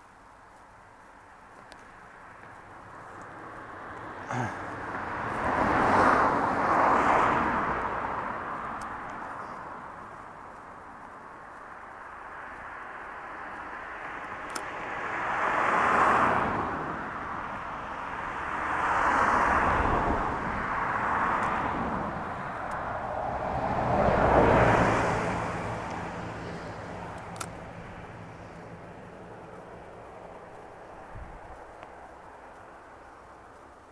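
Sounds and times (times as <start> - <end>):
cars passing: 0.6 - 33.9.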